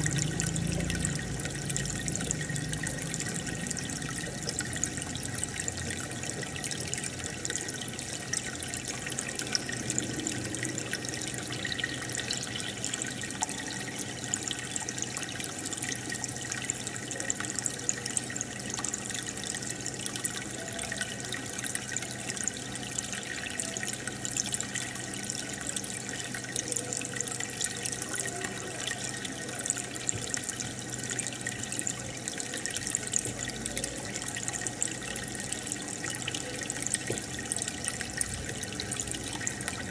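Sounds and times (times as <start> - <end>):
aquarium aeration bubbling: 0.0 - 39.9
water trickling: 0.0 - 39.9.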